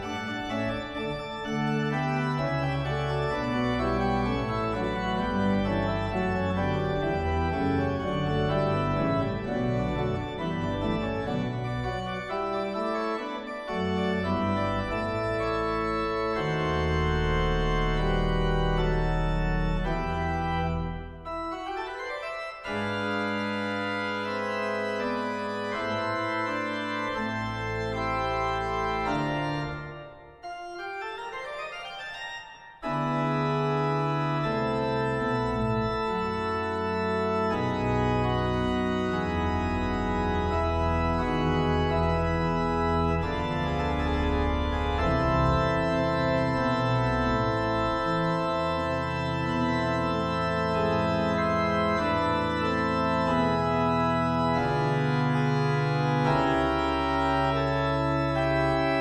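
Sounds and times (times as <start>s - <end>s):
church pipe organ chords: 0.0s - 59.0s.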